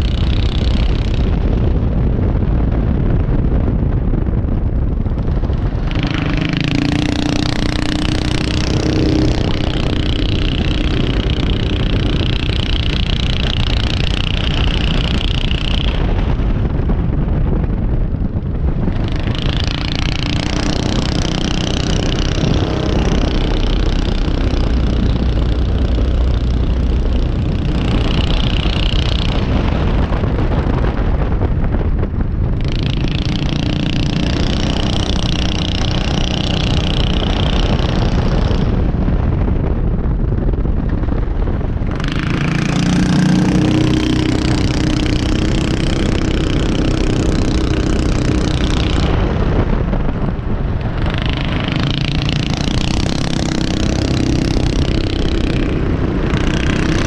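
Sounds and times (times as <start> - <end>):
race car engine running hard: 0.0 - 57.0
wind rushing over microphone: 0.0 - 57.0.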